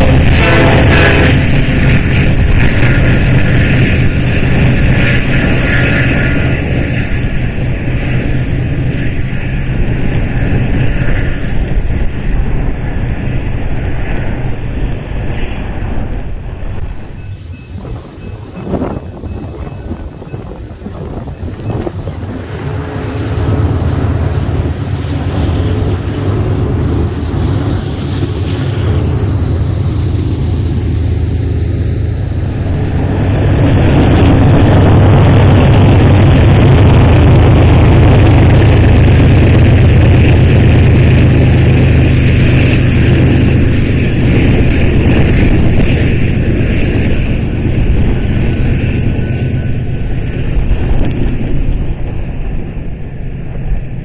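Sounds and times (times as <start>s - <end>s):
steel wheels rumbling on rail: 0.0s - 14.5s, 15.8s - 54.0s
diesel locomotive engine drone: 0.0s - 54.0s.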